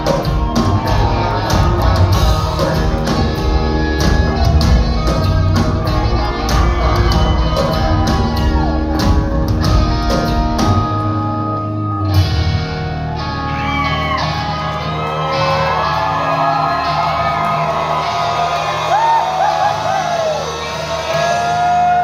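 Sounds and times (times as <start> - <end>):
crowd shouting: 0.0 - 10.2, 12.9 - 22.0
drums and bass: 0.0 - 22.0
electric guitar with sliding notes: 0.0 - 22.0
live rock band playing: 0.0 - 22.0.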